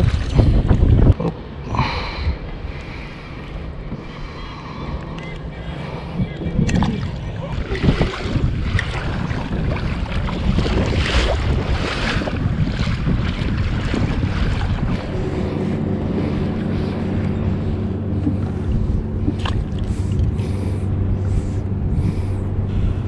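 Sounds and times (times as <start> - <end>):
sea waves: 0.0 - 23.0
steady low hum: 0.0 - 23.0
wind buffeting microphone: 0.0 - 23.0.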